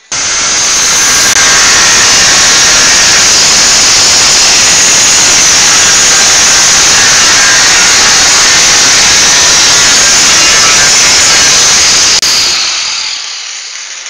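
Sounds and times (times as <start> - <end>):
angle grinder cutting iron: 0.0 - 14.0.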